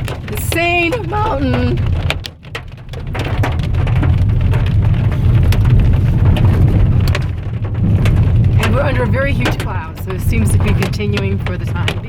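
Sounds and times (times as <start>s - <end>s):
car driving rumble: 0.0s - 12.0s
hail pelting a car: 0.0s - 12.0s.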